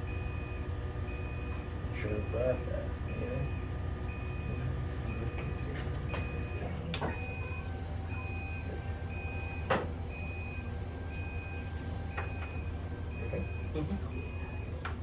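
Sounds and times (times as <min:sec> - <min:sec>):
equipment alarm beeping: 0:00.0 - 0:14.8
steady low hum: 0:00.0 - 0:15.0.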